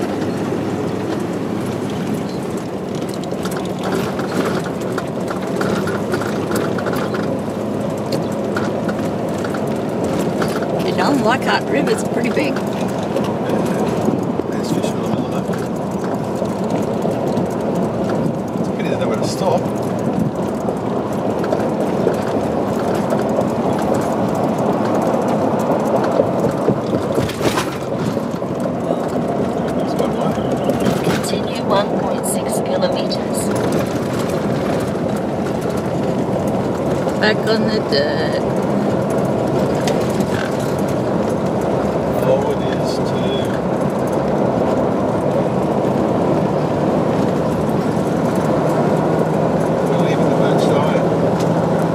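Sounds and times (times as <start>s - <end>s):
engine rumble: 0.0s - 51.9s.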